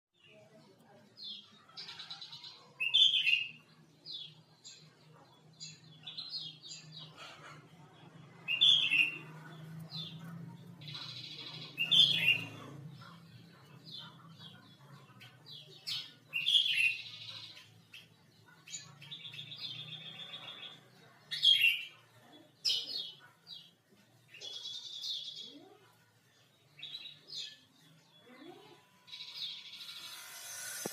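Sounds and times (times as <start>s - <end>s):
bird chirping: 0.2s - 30.9s.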